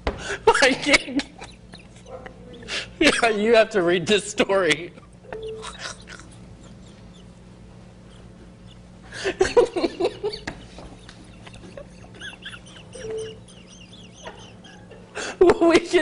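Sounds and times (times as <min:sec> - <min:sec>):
person laughing uncontrollably: 0:00.3 - 0:03.4, 0:05.0 - 0:07.4, 0:08.0 - 0:16.0.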